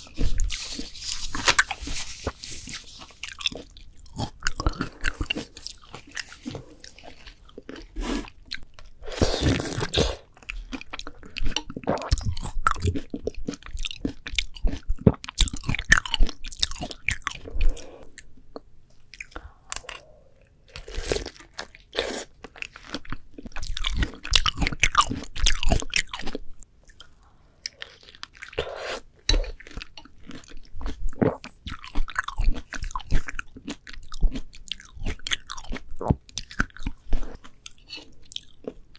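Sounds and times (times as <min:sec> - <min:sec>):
chewing juicy melon: 0:00.0 - 0:38.8.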